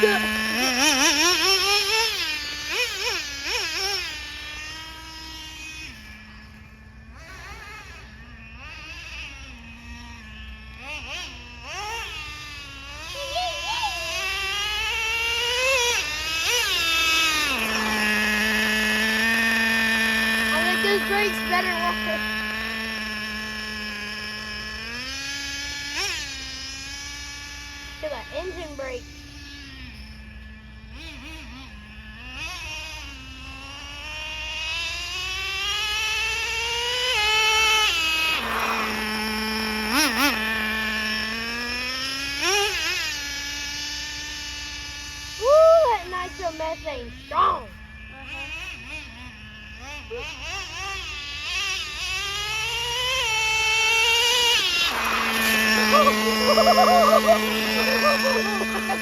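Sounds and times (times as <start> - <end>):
rc car engine whining: 0.0 - 59.0.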